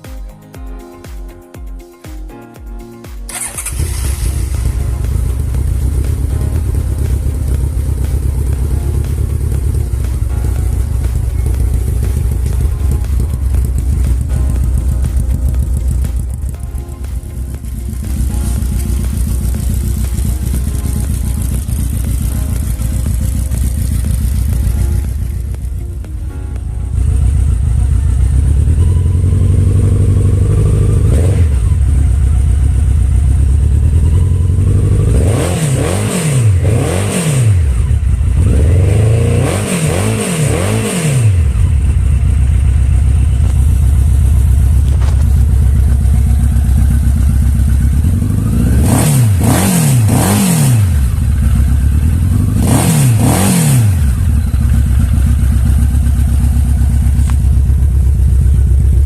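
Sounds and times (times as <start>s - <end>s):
motorcycle engine idling: 3.3s - 59.0s
motorcycle throttle blips: 3.3s - 59.0s.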